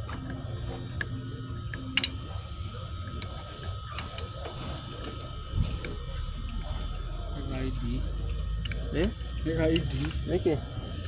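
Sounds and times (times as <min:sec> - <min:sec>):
metal tools clicking and clinking: 0:00.0 - 0:10.3
steady low hum: 0:00.0 - 0:11.0.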